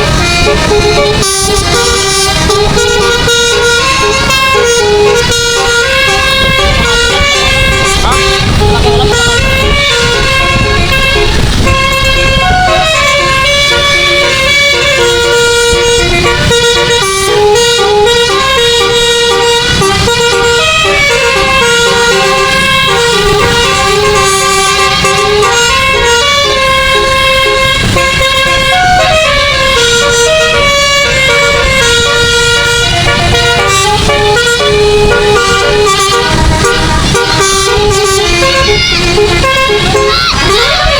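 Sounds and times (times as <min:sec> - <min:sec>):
musical air horn melody: 0:00.0 - 0:40.9.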